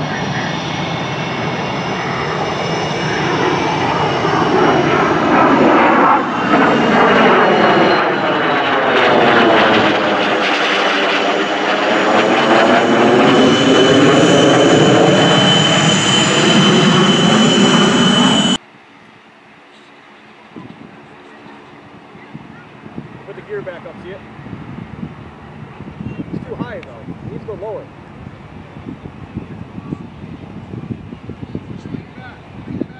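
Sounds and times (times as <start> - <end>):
jet roar passing overhead: 0.0 - 18.6, 20.2 - 32.9.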